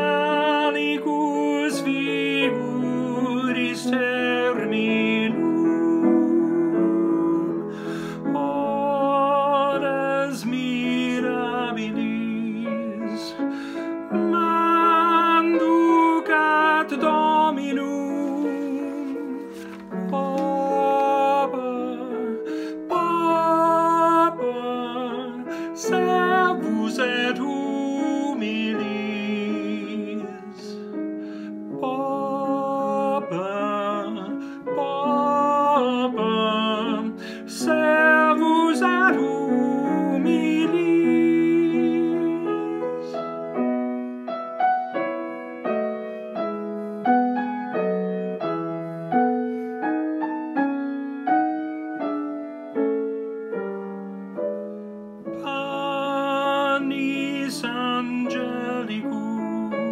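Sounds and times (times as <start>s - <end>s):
man singing with vibrato: 0.0s - 43.7s, 55.3s - 59.9s
piano accompaniment: 0.0s - 59.9s.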